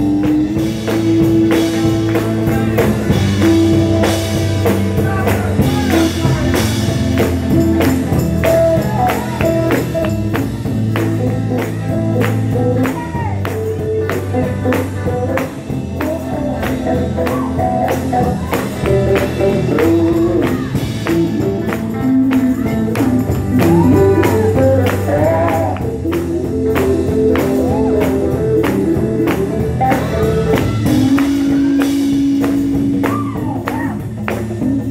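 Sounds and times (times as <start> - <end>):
person singing: 0.0 - 10.1, 11.1 - 34.9
gospel band playing: 0.0 - 34.9
tambourine beat: 0.0 - 34.9.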